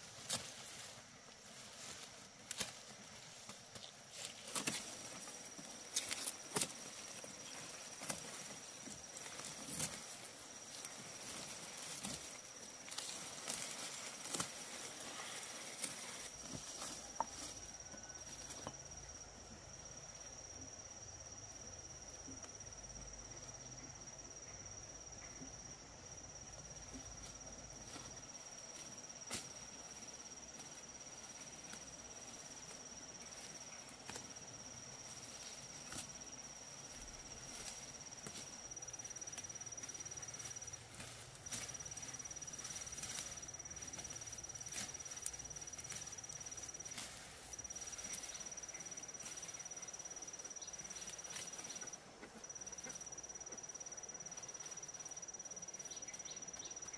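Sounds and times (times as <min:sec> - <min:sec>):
insect trilling: 0:01.6 - 0:56.9.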